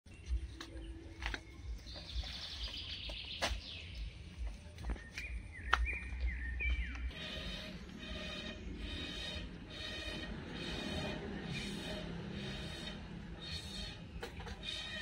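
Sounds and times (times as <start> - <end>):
birds chirping and trilling: 0.1 - 15.0.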